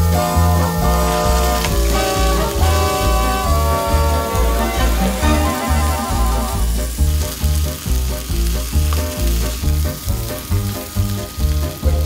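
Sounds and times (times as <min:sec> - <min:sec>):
background music with bass line: 0:00.0 - 0:12.0
meat sizzling in oil: 0:00.0 - 0:12.0.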